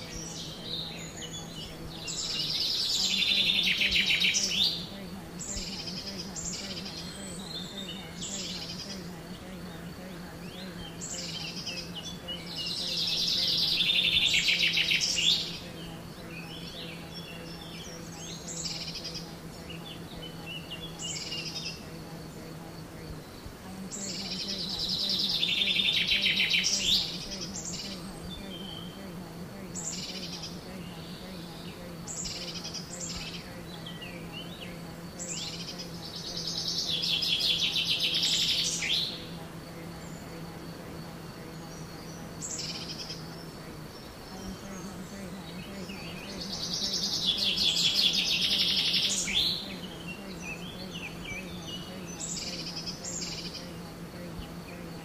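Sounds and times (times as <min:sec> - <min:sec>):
songbirds singing: 0:00.0 - 0:55.0
steady low hum: 0:00.0 - 0:55.0.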